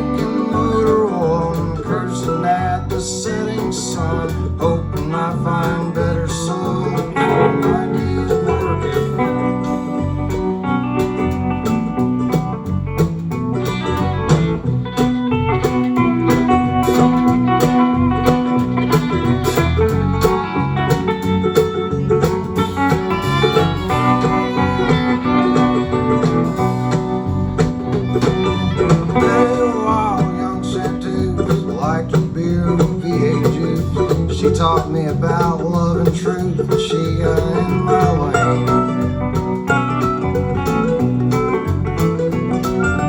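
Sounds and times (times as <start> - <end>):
country band playing live: 0.0 - 43.0.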